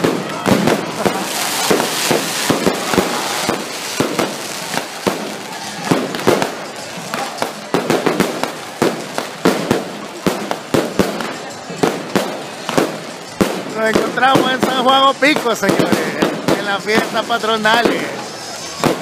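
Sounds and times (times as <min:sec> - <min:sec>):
firework hiss: 0:00.0 - 0:19.0
fireworks bangs and crackles: 0:00.0 - 0:19.0.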